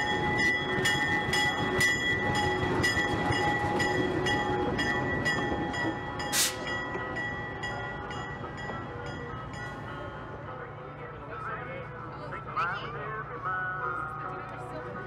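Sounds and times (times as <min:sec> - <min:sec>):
idling diesel locomotive: 0:00.0 - 0:15.0.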